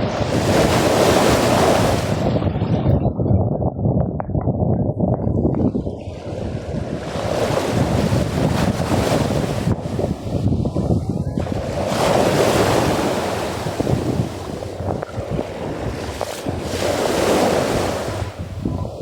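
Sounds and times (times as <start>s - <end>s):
sea waves washing ashore: 0.0s - 2.9s, 5.6s - 19.0s
wind buffeting microphone: 0.0s - 19.0s.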